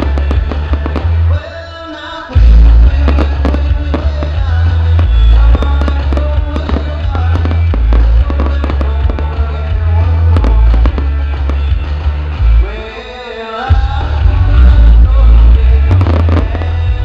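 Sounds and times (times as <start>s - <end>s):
fireworks popping and crackling: 0.0s - 1.6s, 2.3s - 13.1s, 14.7s - 17.0s
loud music with heavy bass: 0.0s - 17.0s.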